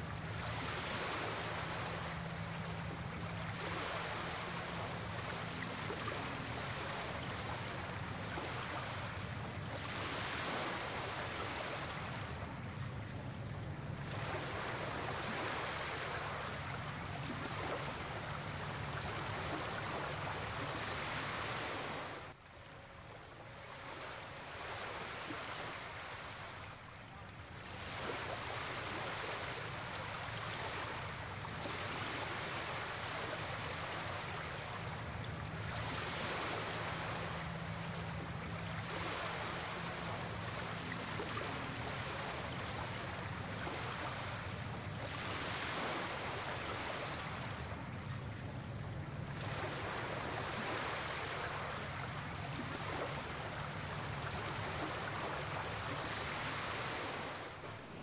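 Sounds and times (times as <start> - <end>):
sea waves washing ashore: 0.0 - 58.0.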